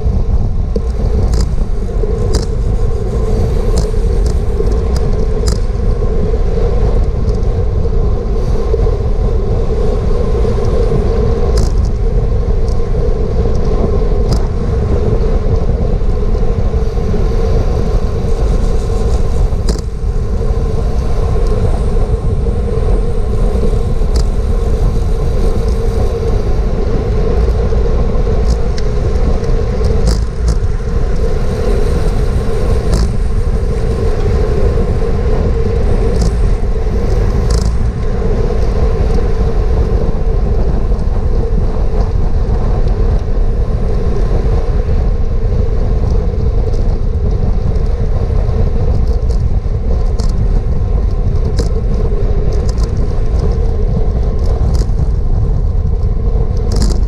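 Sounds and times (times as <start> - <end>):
loud wind rush on microphone: 0.0 - 57.0.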